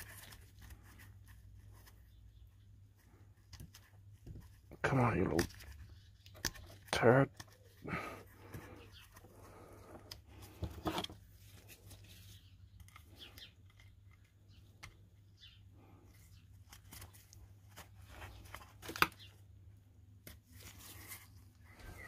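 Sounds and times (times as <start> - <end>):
hands handling small parts: 0.0 - 22.0.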